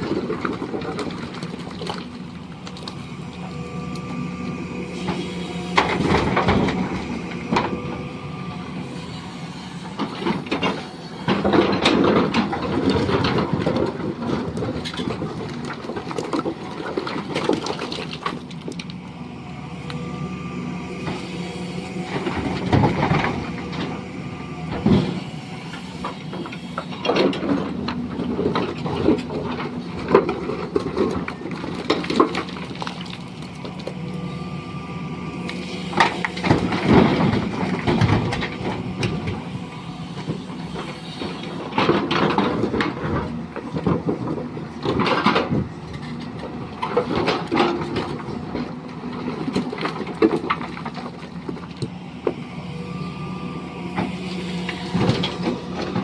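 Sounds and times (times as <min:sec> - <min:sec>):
stone-crushing machinery running: 0:00.0 - 0:56.0.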